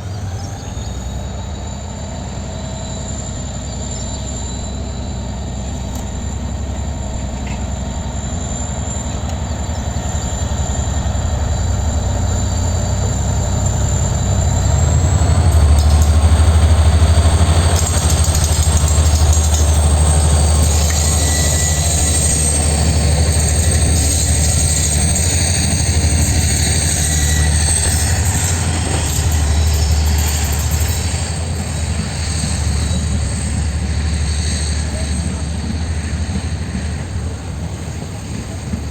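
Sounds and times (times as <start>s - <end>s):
faint high squeal: 0.0s - 38.9s
train wheels rumbling on rails: 0.0s - 38.9s.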